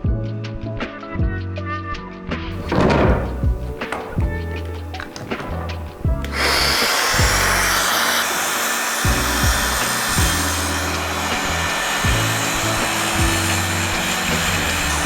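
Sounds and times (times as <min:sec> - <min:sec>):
power tool cutting wood: 0:02.6 - 0:15.0.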